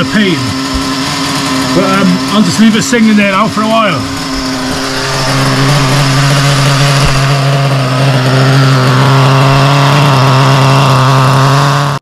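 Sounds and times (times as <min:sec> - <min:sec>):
nitro engine idling: 0:00.0 - 0:12.0.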